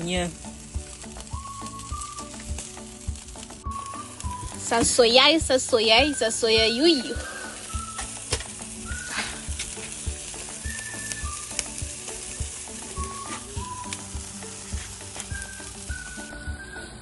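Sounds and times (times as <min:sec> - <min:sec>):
meat sizzling on a grill: 0:00.0 - 0:17.0
crackles and pops of fat: 0:00.4 - 0:16.0.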